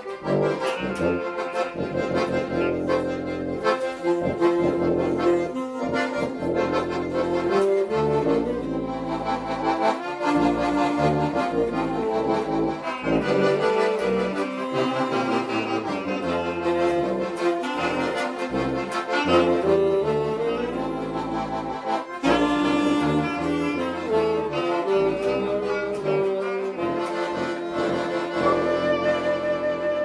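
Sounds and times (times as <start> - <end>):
accordion: 0.0 - 30.0
clarinet: 0.0 - 30.0
saxophone: 0.0 - 30.0
tuba: 0.0 - 30.0.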